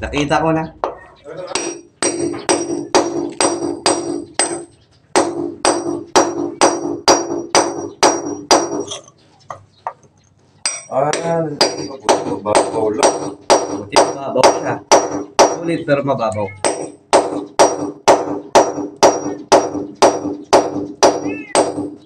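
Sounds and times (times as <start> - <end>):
hammer striking metal chisel: 0.8 - 9.0, 10.6 - 15.7, 16.6 - 22.0.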